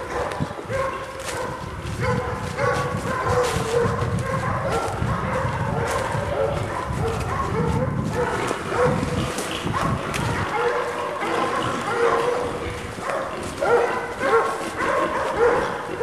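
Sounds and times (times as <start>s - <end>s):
dogs barking and yipping: 0.0s - 16.0s.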